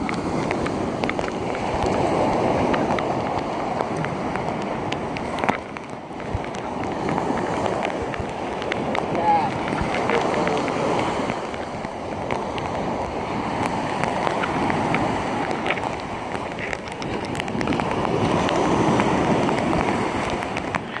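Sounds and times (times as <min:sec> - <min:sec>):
light ticks of rain: 0:00.0 - 0:21.0
surf breaking on beach: 0:00.0 - 0:21.0
wind buffeting microphone: 0:00.0 - 0:21.0.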